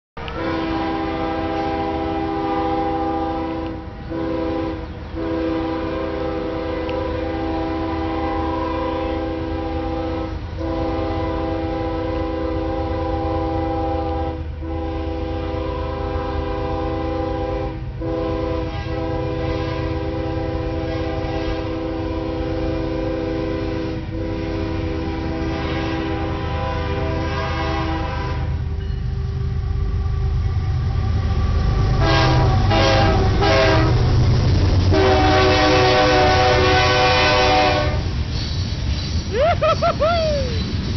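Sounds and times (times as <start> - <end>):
locomotive air horn blasts: 0.2 - 28.8, 31.4 - 34.1, 34.9 - 38.2
passing train rumble: 0.2 - 40.9.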